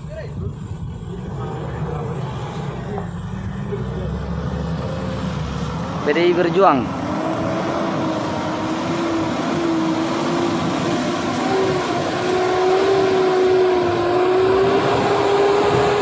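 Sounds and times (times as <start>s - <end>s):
pickup engine under load: 0.0s - 16.0s.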